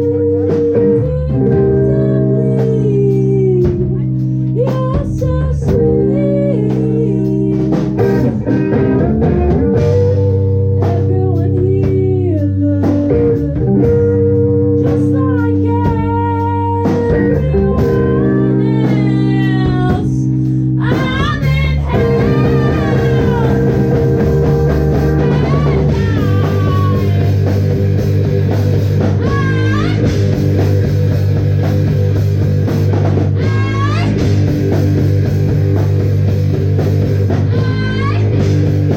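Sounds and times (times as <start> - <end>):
drum kit: 0.0 - 38.9
electric guitar and bass chords: 0.0 - 38.9.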